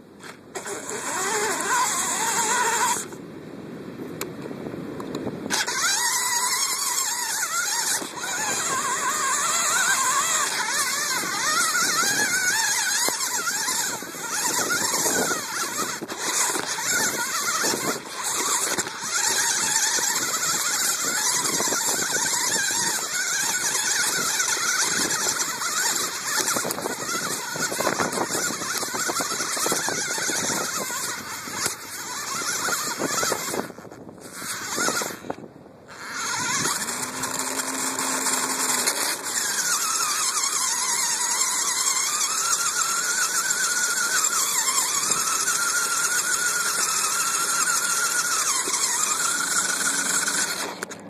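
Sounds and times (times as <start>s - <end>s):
toy car motor whining: 0.0s - 3.2s, 5.4s - 51.0s
toy car rattling over ground: 0.2s - 3.2s, 5.5s - 51.0s.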